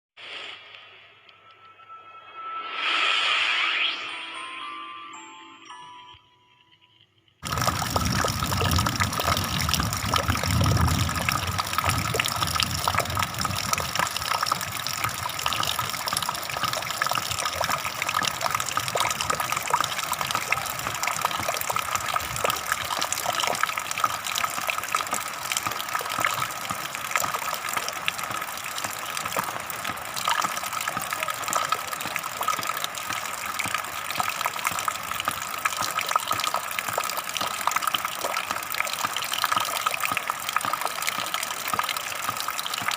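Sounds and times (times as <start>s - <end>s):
flowing water rushing: 7.4s - 42.9s.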